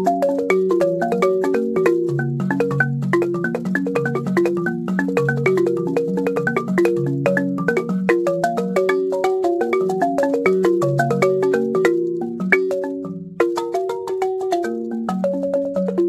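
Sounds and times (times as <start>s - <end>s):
balafon struck with mallets: 0.0s - 16.0s.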